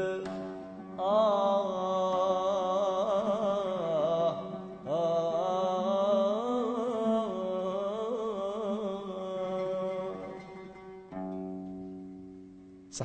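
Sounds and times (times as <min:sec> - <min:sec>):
man singing long ornamented notes: 0:00.0 - 0:11.3.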